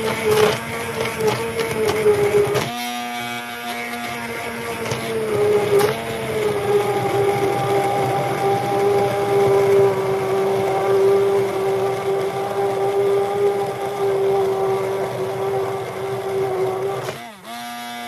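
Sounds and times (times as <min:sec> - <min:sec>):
immersion blender motor humming: 0:00.0 - 0:18.0.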